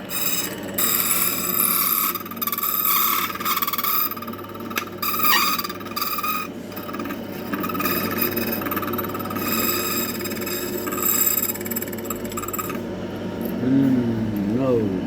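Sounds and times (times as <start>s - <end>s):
key-cutting machine grinding: 0.0s - 12.8s.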